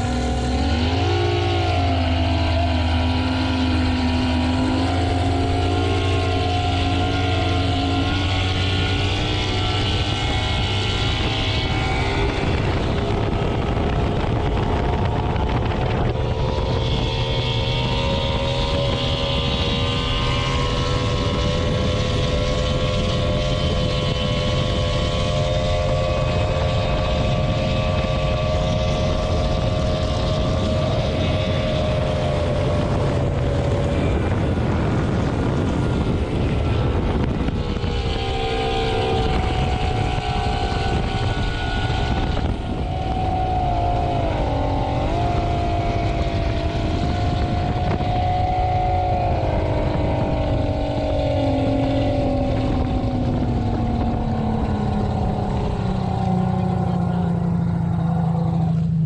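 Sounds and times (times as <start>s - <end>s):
outboard motor at high revs: 0.0s - 59.0s.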